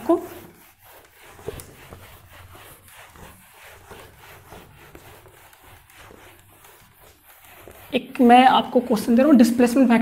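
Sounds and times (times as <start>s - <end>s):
eraser rubbing on whiteboard: 0.0s - 9.9s.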